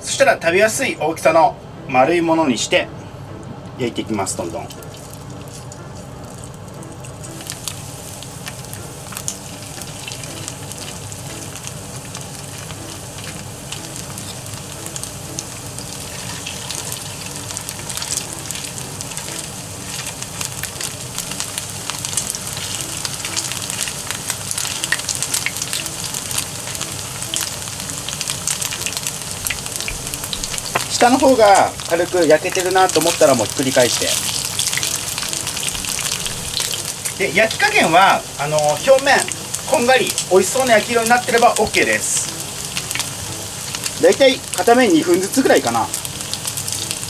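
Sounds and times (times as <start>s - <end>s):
patties sizzling in oil: 4.2s - 47.0s.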